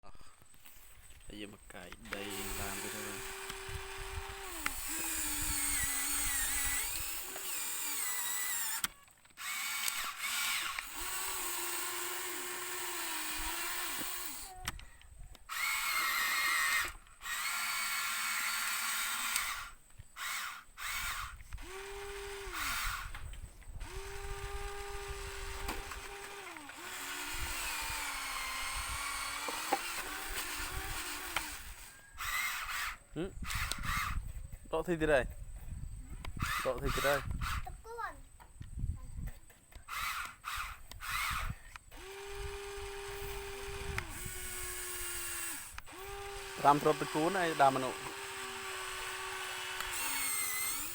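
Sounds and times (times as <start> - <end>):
small electric motor whining: 0.4 - 35.0, 35.6 - 50.9.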